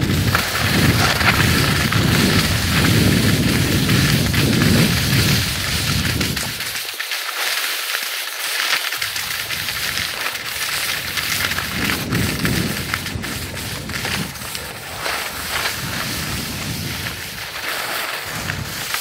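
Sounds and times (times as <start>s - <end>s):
wind rumbling on microphone: 0.0s - 6.8s, 9.0s - 19.0s
skis scraping over snow: 0.0s - 19.0s.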